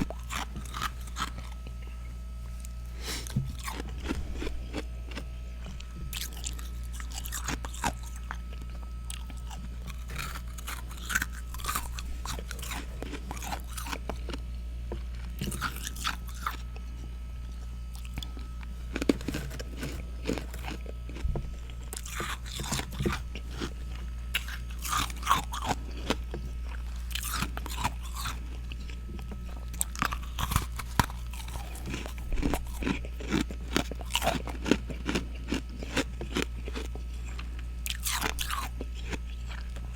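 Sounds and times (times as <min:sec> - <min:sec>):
crunching and chewing frost: 0:00.0 - 0:39.9
steady low hum: 0:00.0 - 0:39.9.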